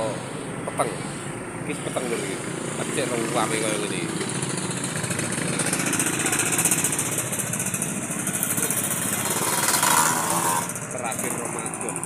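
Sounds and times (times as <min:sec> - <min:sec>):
busy street noise: 0:00.0 - 0:12.0
small motorcycle engine running: 0:00.0 - 0:12.0.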